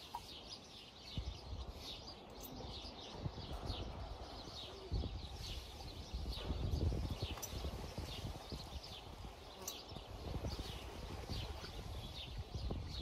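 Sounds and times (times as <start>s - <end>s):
small birds chirping: 0.0s - 13.0s
wind rumbling on microphone: 0.0s - 13.0s.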